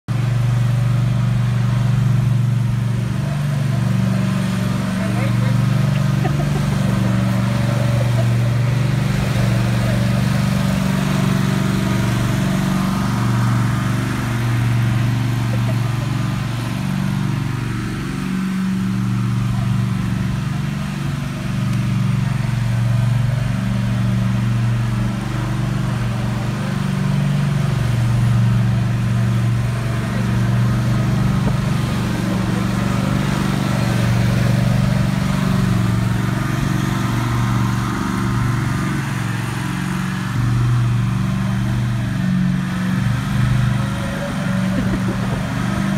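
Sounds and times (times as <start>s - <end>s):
riding mower engine running: 0.1s - 45.9s.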